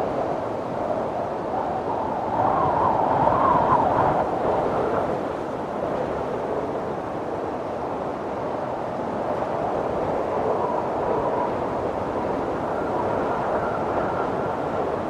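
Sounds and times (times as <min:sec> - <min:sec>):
wind through bamboo: 0:00.0 - 0:15.0.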